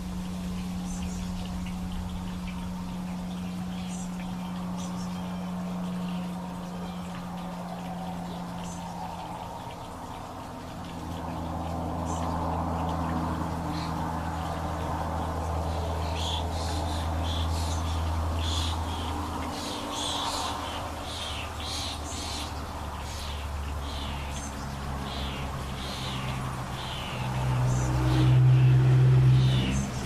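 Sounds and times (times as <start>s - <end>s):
birds singing: 0.0s - 30.0s
highway traffic drone: 0.0s - 30.0s
vehicle passing: 0.0s - 30.0s.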